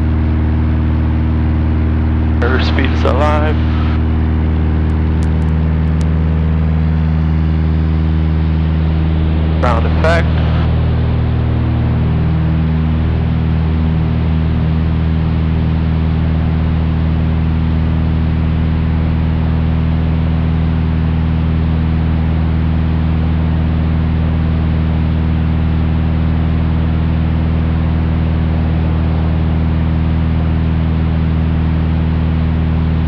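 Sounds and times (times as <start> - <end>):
airplane engine and propeller: 0.0 - 33.0.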